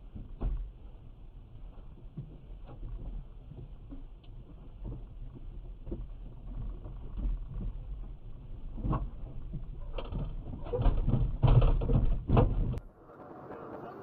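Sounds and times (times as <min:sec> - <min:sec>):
low road rumble: 0:00.0 - 0:14.0.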